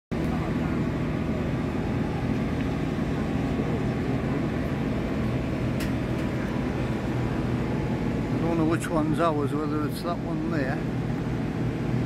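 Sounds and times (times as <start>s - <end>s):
low drone of airport machinery: 0.1s - 12.0s.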